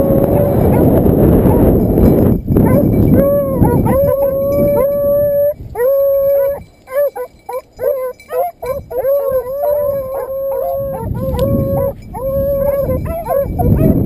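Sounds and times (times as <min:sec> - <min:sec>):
hounds baying: 0:00.0 - 0:01.9, 0:02.6 - 0:14.0.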